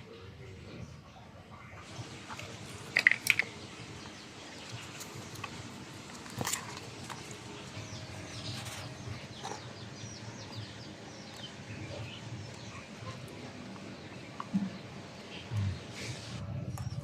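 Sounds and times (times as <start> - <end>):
birds chirping: 0.0 - 17.0
low background noise: 0.0 - 17.0.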